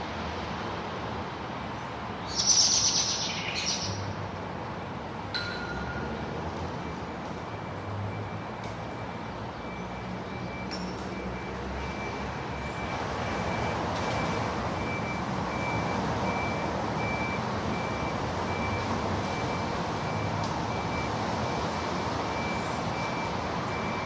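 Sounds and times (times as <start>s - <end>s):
distant city traffic: 0.0s - 24.0s.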